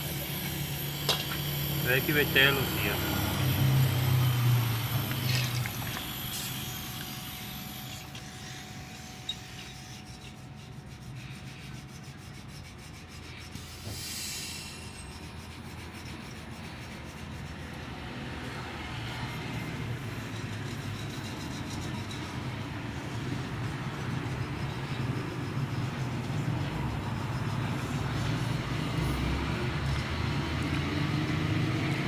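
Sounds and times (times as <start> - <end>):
rubbing and scraping while cleaning: 0.0 - 30.8.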